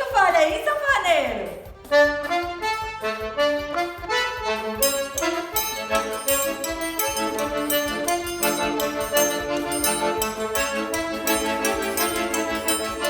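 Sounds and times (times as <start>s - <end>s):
accordion melody: 0.0s - 13.0s
percussion beat: 0.0s - 13.0s.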